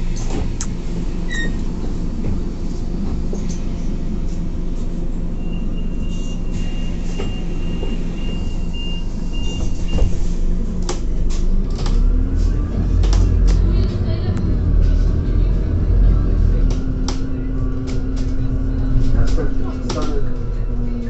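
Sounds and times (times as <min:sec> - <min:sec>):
bus engine hum: 0:00.0 - 0:21.0.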